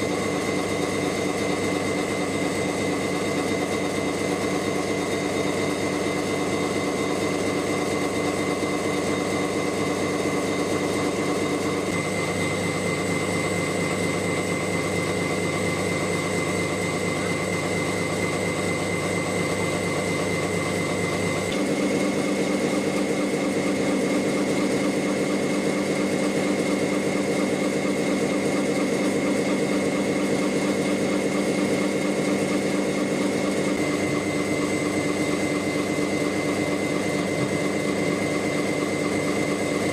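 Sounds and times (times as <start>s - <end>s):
gear hobbing machine whining: 0.0s - 39.9s.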